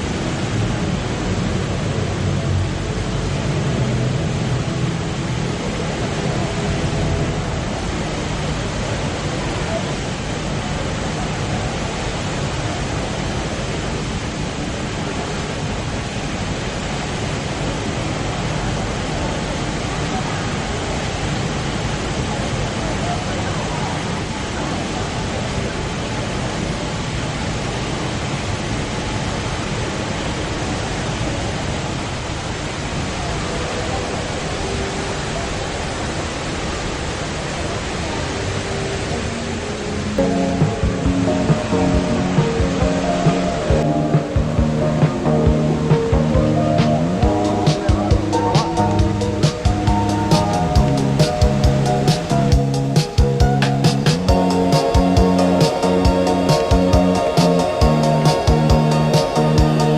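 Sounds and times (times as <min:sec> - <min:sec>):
indoor waterfall roaring: 0:00.0 - 0:59.9.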